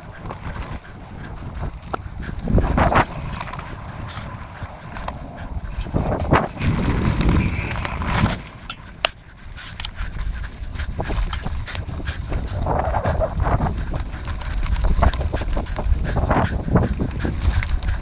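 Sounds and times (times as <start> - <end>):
bike rattling and clicking: 0.0 - 18.0
bike tyres rumbling on dirt: 0.0 - 18.0
wind buffeting microphone: 0.0 - 18.0.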